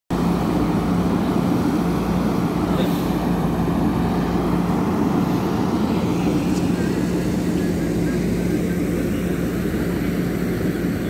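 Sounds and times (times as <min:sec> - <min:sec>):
diesel engine droning: 0:00.1 - 0:11.0.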